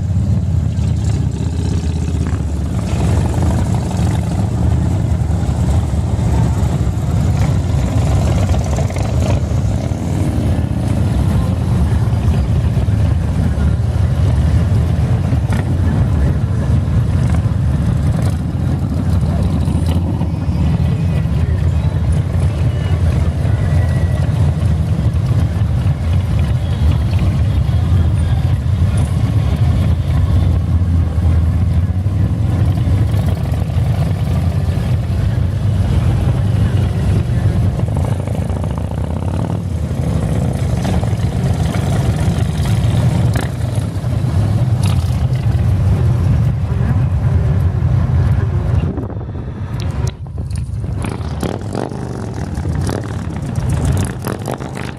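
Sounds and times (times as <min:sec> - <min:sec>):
motorcycles riding past: 0:00.0 - 0:48.8, 0:50.6 - 0:54.9.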